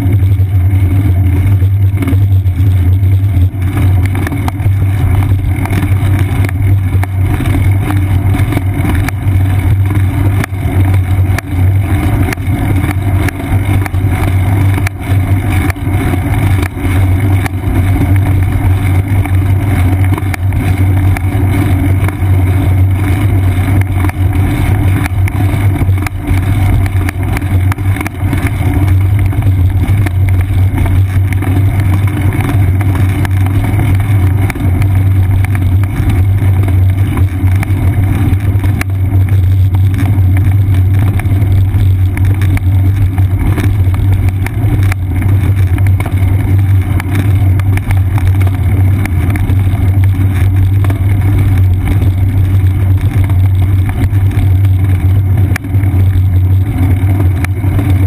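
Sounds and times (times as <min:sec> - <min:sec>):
constant low hum: 0:00.0 - 0:58.0
road rumble: 0:00.0 - 0:58.0.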